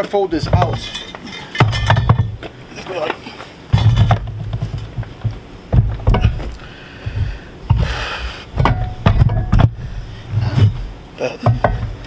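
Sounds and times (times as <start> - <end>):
heavy metal clunks and knocks: 0.0 - 12.0.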